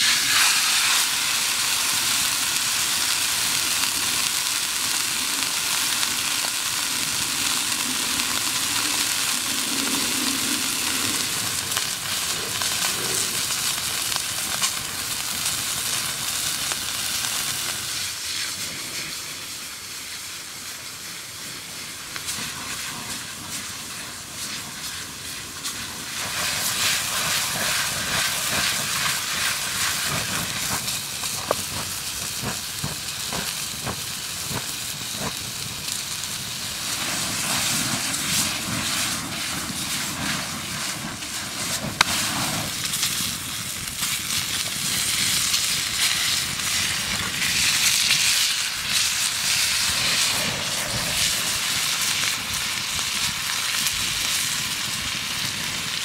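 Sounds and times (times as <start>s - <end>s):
steak sizzling in pan: 0.0s - 19.2s, 22.0s - 56.0s.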